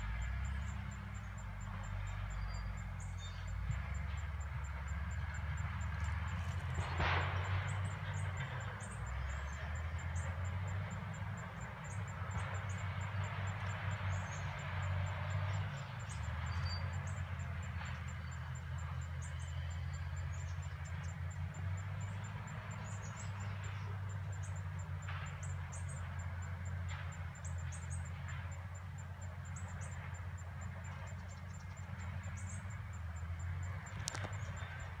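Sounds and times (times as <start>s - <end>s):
bulldozer diesel engines: 0.0s - 35.0s.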